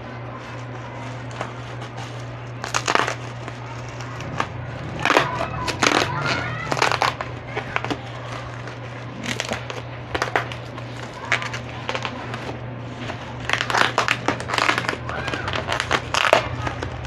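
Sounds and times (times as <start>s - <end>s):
low hum: 0.0s - 17.0s
plastic bag crinkling and tearing: 0.0s - 17.0s.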